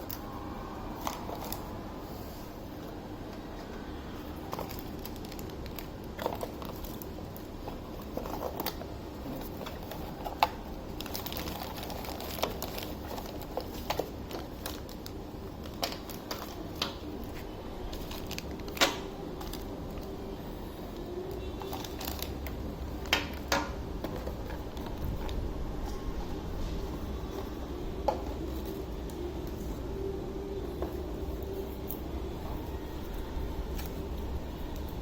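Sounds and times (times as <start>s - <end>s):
plastic packaging crinkling: 0.0s - 2.2s, 3.4s - 35.0s.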